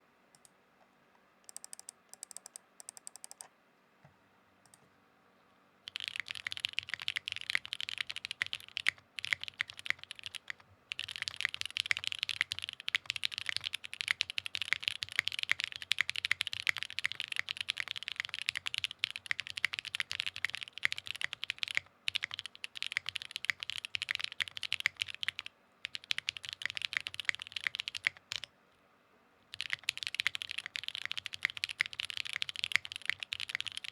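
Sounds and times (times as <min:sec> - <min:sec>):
mechanical keyboard typing: 0:01.5 - 0:03.5, 0:05.9 - 0:28.5, 0:29.5 - 0:33.9.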